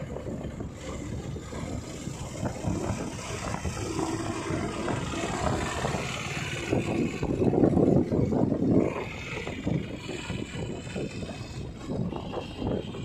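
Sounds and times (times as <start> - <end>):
road noise: 0.0 - 13.0
vehicle engine: 0.0 - 13.0
wind rumbling on microphone: 0.0 - 13.0.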